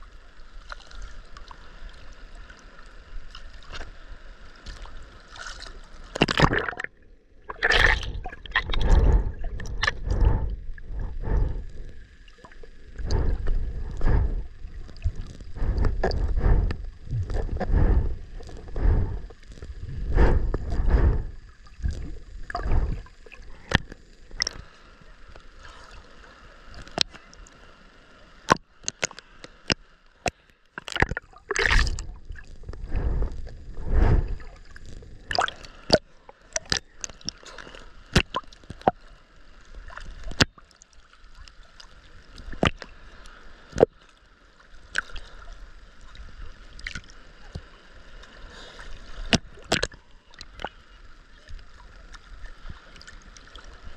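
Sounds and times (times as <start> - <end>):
water sloshing and gurgling: 0.0 - 27.6, 28.4 - 53.9.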